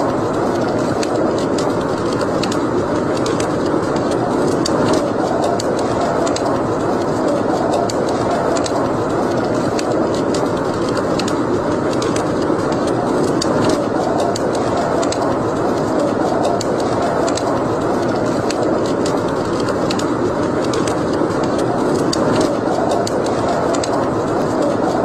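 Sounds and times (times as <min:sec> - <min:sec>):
burning wood crackling and popping: 0:00.0 - 0:25.0
fire flames rushing: 0:00.0 - 0:25.0.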